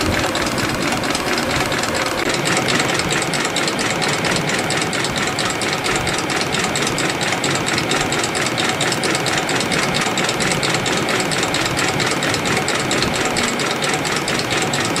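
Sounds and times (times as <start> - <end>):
fast even clicking: 0.0 - 15.0
machine hum: 0.0 - 15.0.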